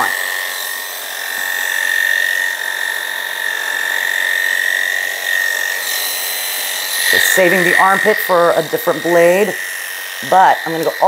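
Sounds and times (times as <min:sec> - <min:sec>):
electric clippers whining: 0:00.0 - 0:11.0.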